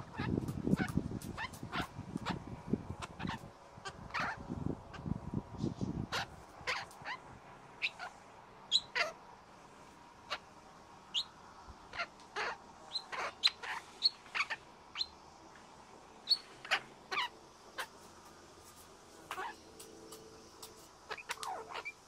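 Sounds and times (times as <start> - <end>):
birds chirping: 0.0 - 5.2, 6.0 - 9.2, 11.1 - 15.3, 16.2 - 22.0.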